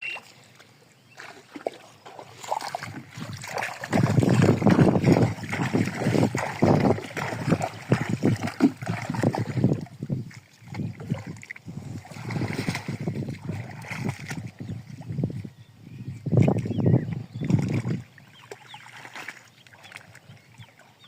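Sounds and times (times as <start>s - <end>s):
water sloshing and splashing: 0.0s - 15.5s, 16.4s - 21.0s.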